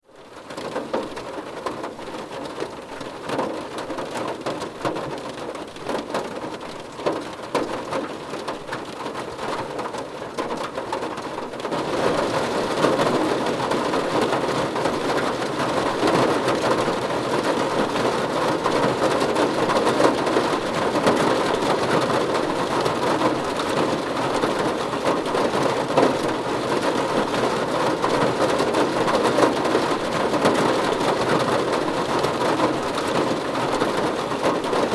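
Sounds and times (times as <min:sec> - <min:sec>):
steady rain falling: 0:00.0 - 0:34.9
raindrops tapping: 0:00.2 - 0:34.9.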